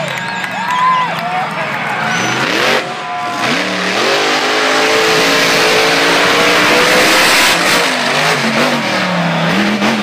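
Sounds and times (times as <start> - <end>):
monster truck engine revving: 1.6 - 10.0.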